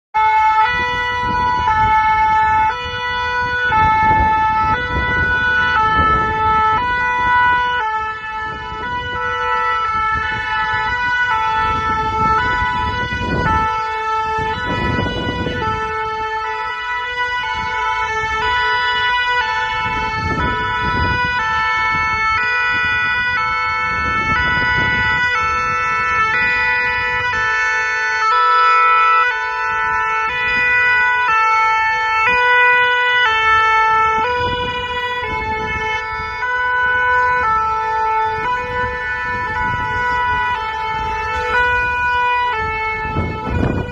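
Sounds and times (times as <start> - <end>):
two-tone emergency sirens: 0.1 - 43.9.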